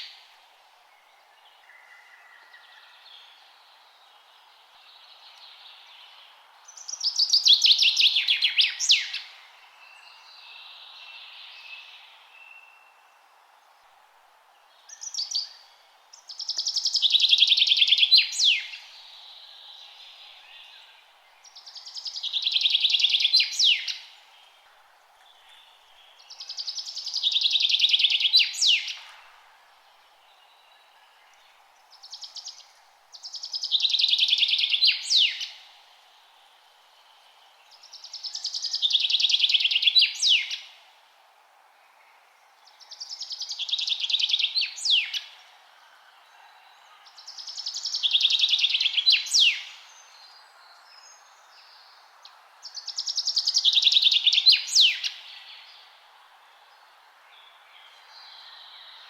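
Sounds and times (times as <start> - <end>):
faint steady hiss: 0.0 - 59.0
songbird trilling song: 1.0 - 13.1, 14.8 - 24.6, 25.2 - 29.2, 30.1 - 35.7, 37.0 - 40.8, 41.9 - 59.0.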